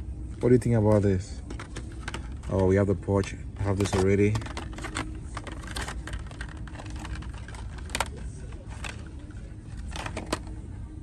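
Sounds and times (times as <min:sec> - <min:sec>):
low store background hum: 0:00.0 - 0:11.0
plastic packs clicking and rattling: 0:01.4 - 0:10.6.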